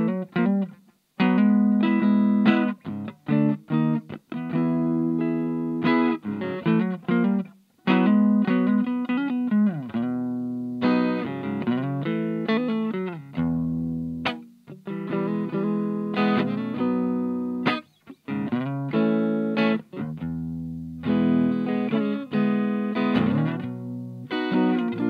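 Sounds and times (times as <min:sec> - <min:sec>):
electric guitar chords and notes: 0:00.0 - 0:25.0.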